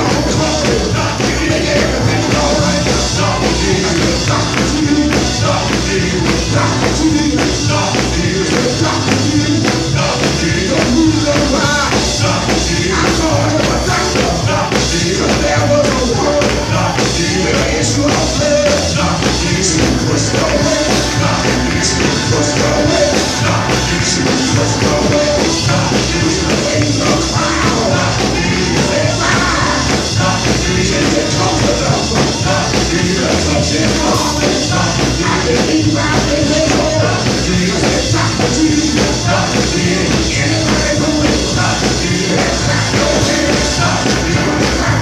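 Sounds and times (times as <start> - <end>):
congregation clapping: 0.0 - 45.0
gospel band playing: 0.0 - 45.0
man singing into a microphone: 0.0 - 45.0.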